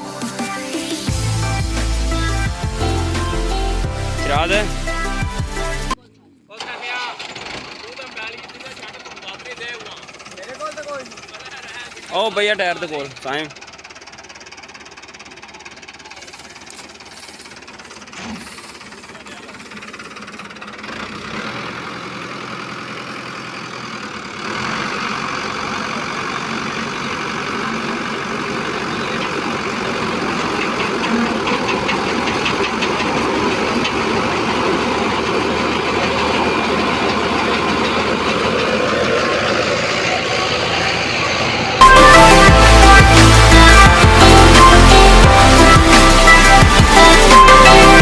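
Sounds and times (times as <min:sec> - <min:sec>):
tractor engine running thresher: 0:00.0 - 0:06.0, 0:06.6 - 0:48.0.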